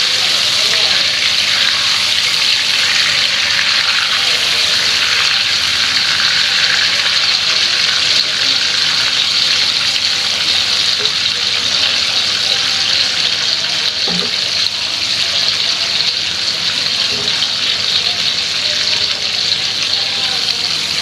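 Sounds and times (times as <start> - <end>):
shrimp sizzling in hot oil: 0.0 - 21.0.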